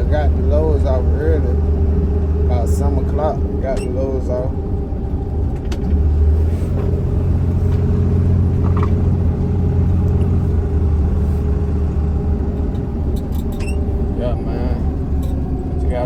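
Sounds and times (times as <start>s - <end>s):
road rumble: 0.0s - 16.0s
truck engine drone: 0.0s - 16.0s.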